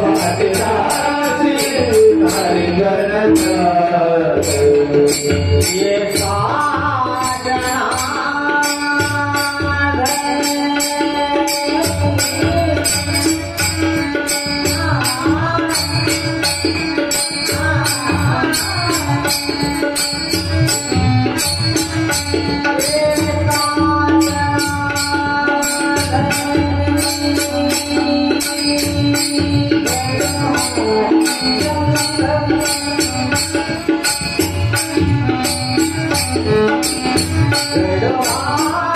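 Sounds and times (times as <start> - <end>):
man singing: 0.0 - 19.9, 22.6 - 34.2, 35.8 - 38.9.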